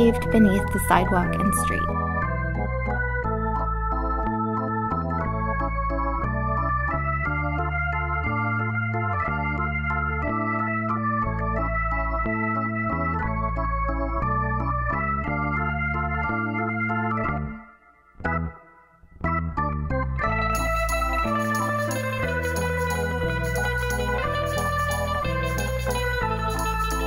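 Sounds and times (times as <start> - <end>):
organ-like keyboard chords: 0.0 - 27.0.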